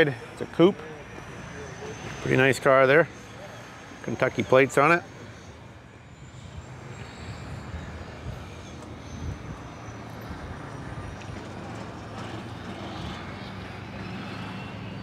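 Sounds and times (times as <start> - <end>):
distant vehicle hum: 0.0 - 15.0.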